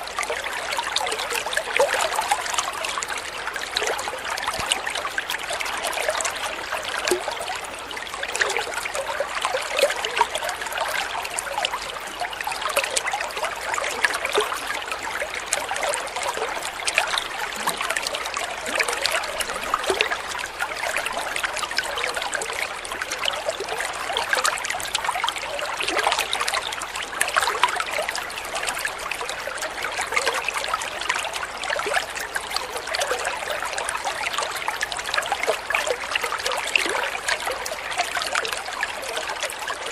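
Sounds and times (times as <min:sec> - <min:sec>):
water trickling with small splashes: 0:00.0 - 0:39.9.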